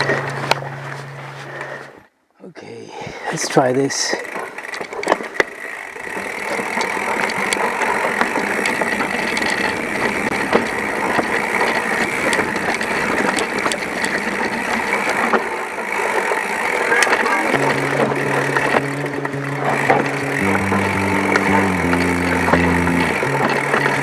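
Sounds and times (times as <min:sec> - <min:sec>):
mountain bike rattling: 0:00.0 - 0:01.8, 0:03.1 - 0:24.0.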